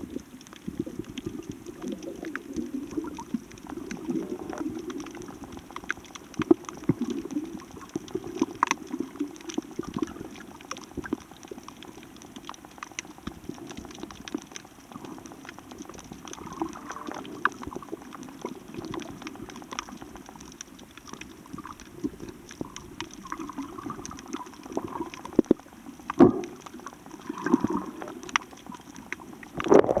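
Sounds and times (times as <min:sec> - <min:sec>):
small sharp clicks and crackles: 0:00.0 - 0:30.0
water gurgling and sloshing: 0:00.0 - 0:30.0.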